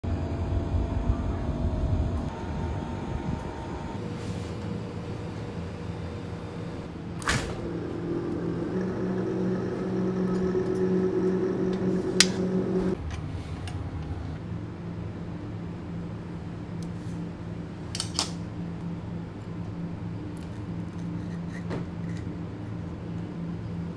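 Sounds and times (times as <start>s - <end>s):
refrigerator hum: 0.0s - 23.9s.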